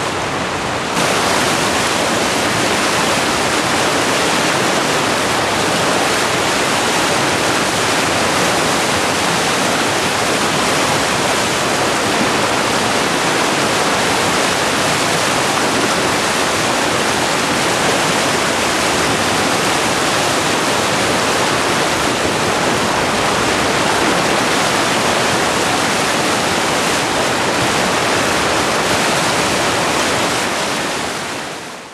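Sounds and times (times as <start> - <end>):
whitewater rapids rushing: 0.0 - 31.9.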